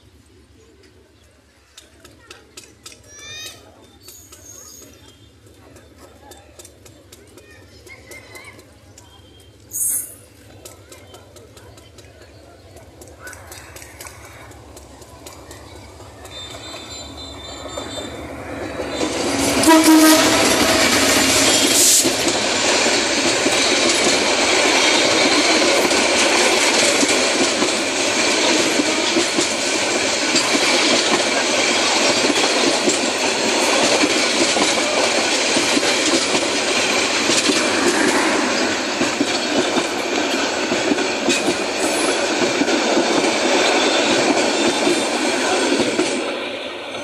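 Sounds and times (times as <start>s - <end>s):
train wheels clattering on rails: 0.7s - 47.0s.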